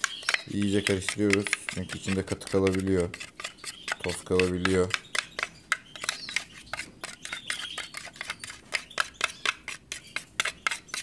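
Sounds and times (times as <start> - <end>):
metal spoon scraping plastic tray: 0.0 - 11.0.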